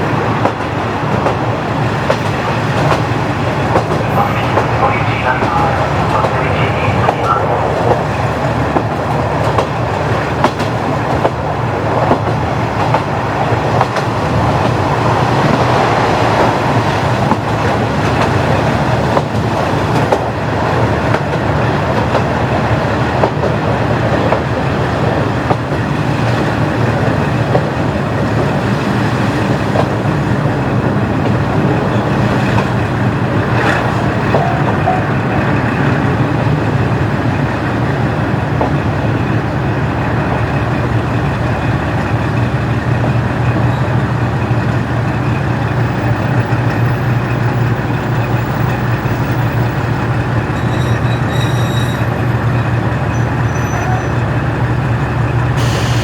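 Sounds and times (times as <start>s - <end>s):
train rolling noise: 0.0s - 56.0s
wheels clacking on rail joints: 0.0s - 56.0s
diesel engine drone: 2.5s - 20.9s, 24.6s - 56.0s.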